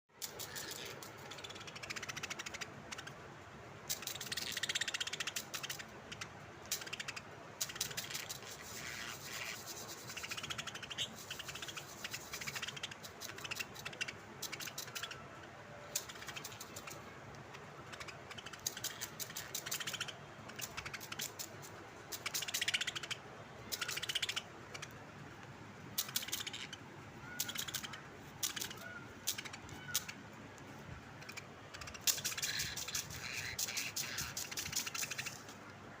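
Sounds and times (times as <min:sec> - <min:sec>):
bird making rattling clicking calls: 0:00.2 - 0:03.2, 0:03.8 - 0:25.0, 0:26.0 - 0:30.2, 0:31.2 - 0:35.7.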